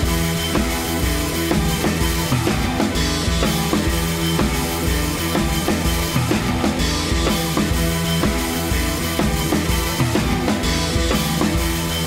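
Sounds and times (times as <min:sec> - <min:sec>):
kick and snare drum beat: 0:00.0 - 0:12.0.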